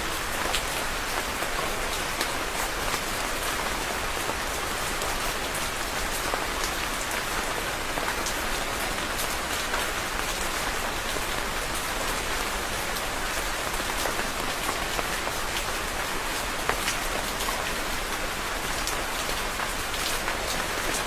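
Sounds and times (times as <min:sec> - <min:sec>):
rain pattering on a surface: 0:00.0 - 0:21.0.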